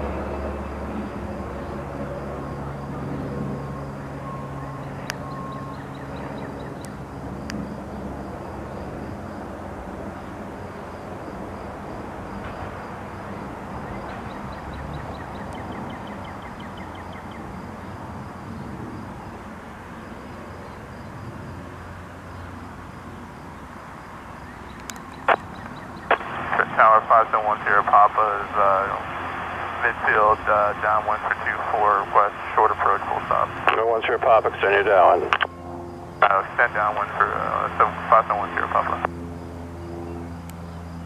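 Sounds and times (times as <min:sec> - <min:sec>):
propeller aircraft droning overhead: 0:00.0 - 0:41.0.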